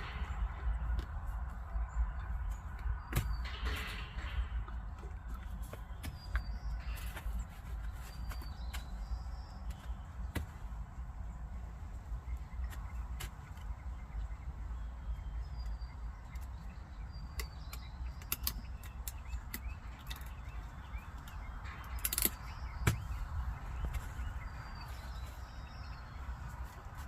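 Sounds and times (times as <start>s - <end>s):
horses chewing on wooden stick: 0.0s - 27.0s
wind rumble on microphone: 0.0s - 27.0s.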